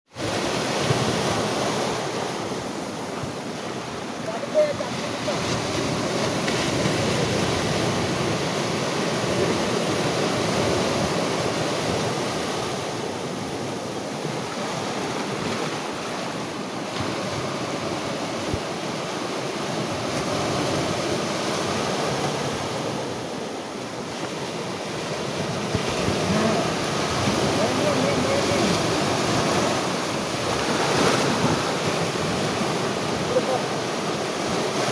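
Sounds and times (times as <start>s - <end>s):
waves breaking: 0.1s - 34.9s.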